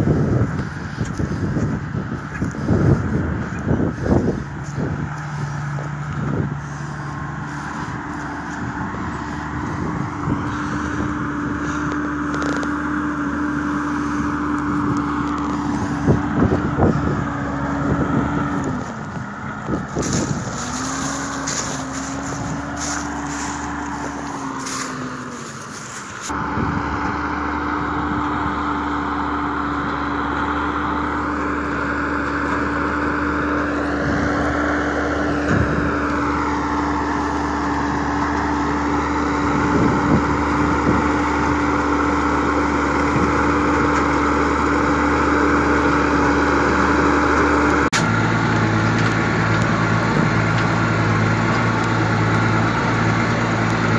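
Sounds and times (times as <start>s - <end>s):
wind buffeting microphone: 0.0s - 31.2s, 31.9s - 53.9s
tractor cab interior drone: 0.0s - 53.9s
tractor diesel engine under load: 0.0s - 53.9s.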